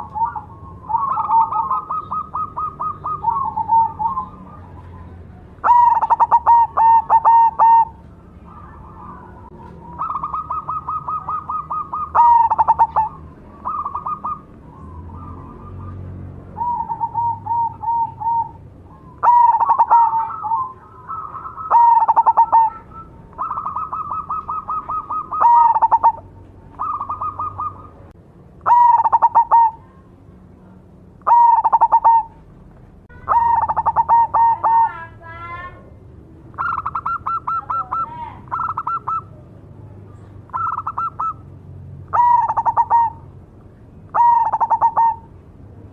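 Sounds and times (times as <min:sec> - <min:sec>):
dove cooing: 0:00.0 - 0:30.0, 0:31.2 - 0:32.4, 0:33.1 - 0:35.2, 0:36.5 - 0:39.5, 0:40.5 - 0:41.5, 0:42.1 - 0:43.3, 0:44.1 - 0:45.4.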